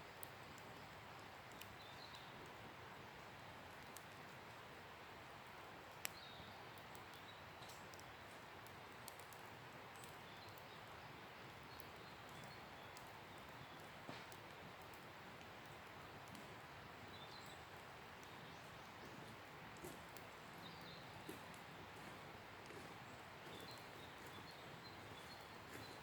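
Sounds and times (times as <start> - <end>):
campfire crackling: 0.0 - 26.0
faint steady hiss: 0.0 - 26.0.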